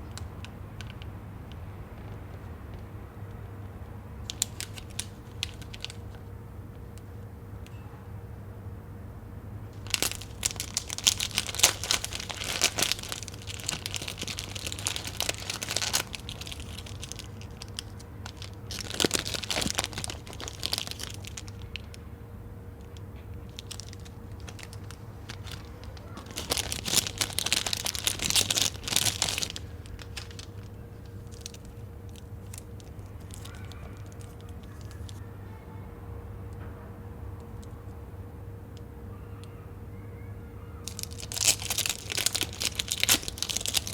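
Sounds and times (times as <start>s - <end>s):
plastic packaging crinkling: 0.0s - 3.5s, 4.1s - 7.2s, 9.7s - 35.4s, 40.8s - 43.9s
low steady hum: 0.0s - 43.9s.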